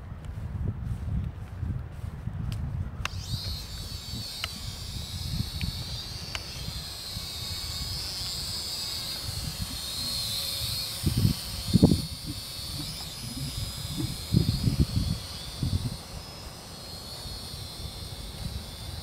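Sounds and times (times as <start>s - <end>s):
wind buffeting microphone: 0.0s - 19.0s
drone motors whining: 3.0s - 19.0s.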